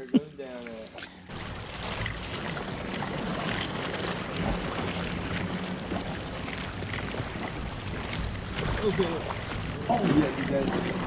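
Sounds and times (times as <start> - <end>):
water around boat: 0.0 - 11.0
wind: 0.0 - 11.0.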